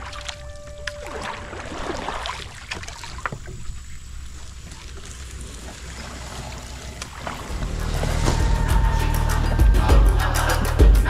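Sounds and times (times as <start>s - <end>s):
paddle blades splashing: 0.0s - 9.5s
moving water wash: 0.0s - 10.9s.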